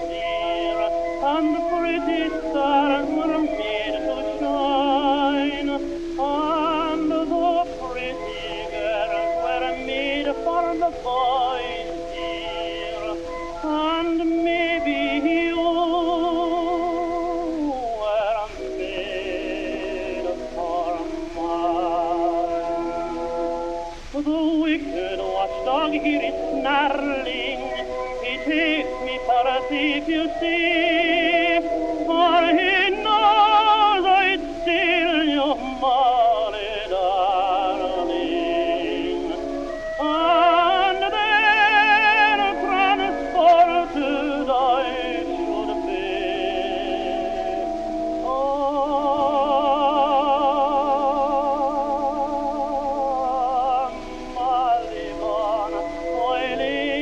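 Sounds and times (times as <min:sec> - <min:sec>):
musical accompaniment: 0:00.0 - 0:57.0
person singing with vibrato: 0:00.0 - 0:57.0.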